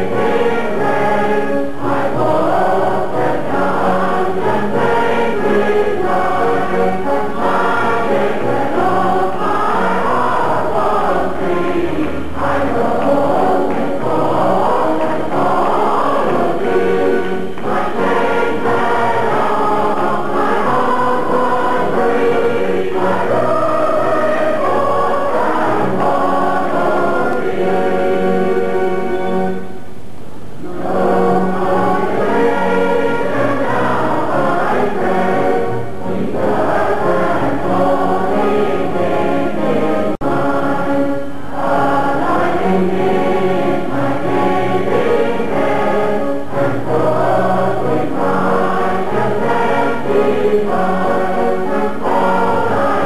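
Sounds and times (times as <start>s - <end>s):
congregation singing a hymn: 0.0s - 29.8s, 30.6s - 53.0s.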